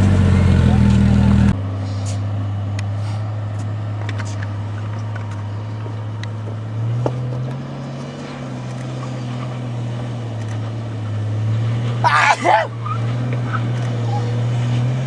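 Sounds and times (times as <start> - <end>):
louder engine sound: 0.0 - 15.0
vehicle engine running low revs: 0.0 - 15.0.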